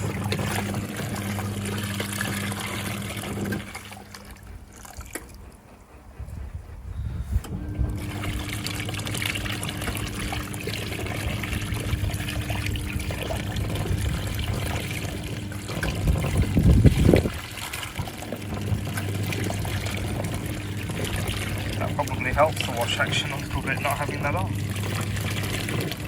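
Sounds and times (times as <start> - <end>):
low surge of water: 0.0 - 6.0, 7.7 - 26.0
water churning and pouring: 0.0 - 6.0, 7.5 - 26.0
washing machine motor hum: 0.0 - 26.0.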